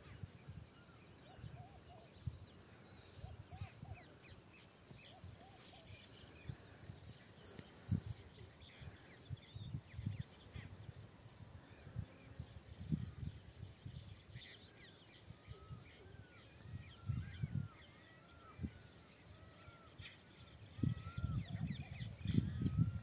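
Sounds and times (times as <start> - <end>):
small birds chirping and trilling: 0.0 - 23.0
soft lower bird calls: 0.0 - 23.0.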